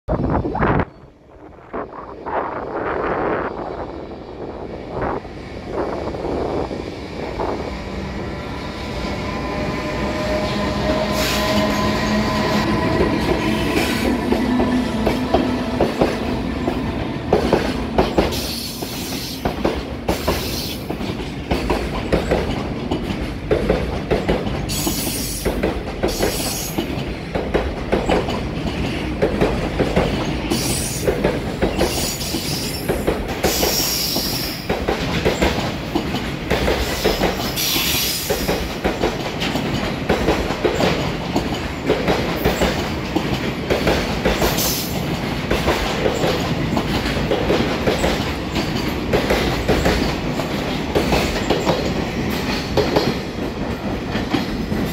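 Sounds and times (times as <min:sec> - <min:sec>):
steady locomotive tone: 0:00.1 - 0:54.9
wheels clickety-clack over rail joints: 0:04.6 - 0:54.9.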